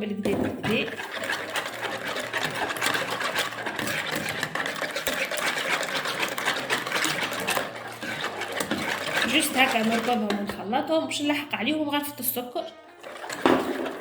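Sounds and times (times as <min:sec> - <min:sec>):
whisk beating eggs in bowl: 0:00.0 - 0:12.3, 0:13.0 - 0:14.0.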